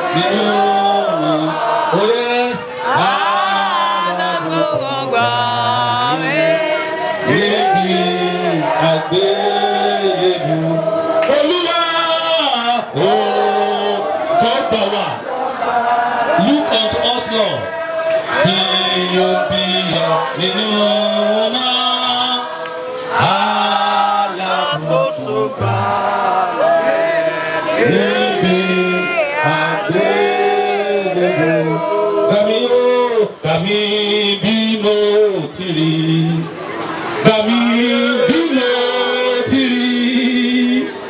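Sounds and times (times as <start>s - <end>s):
voices singing a chant: 0.0s - 41.0s.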